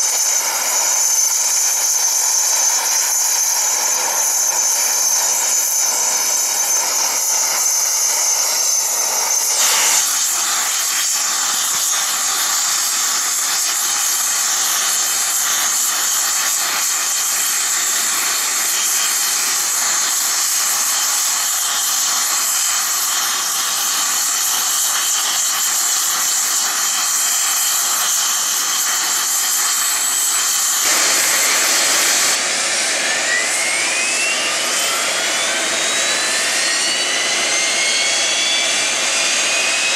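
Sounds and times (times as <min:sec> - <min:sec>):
jet turbine whine and hiss: 0:00.0 - 0:39.9
turbofan spooling up: 0:00.0 - 0:39.9.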